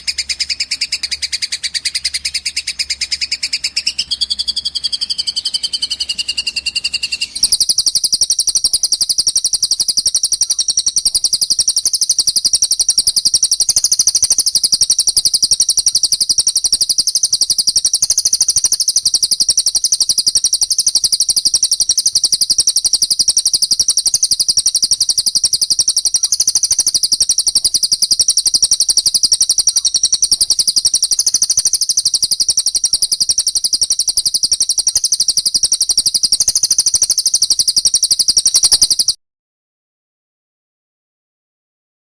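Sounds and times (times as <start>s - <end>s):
songbird high-pitched trill: 0.0s - 39.2s.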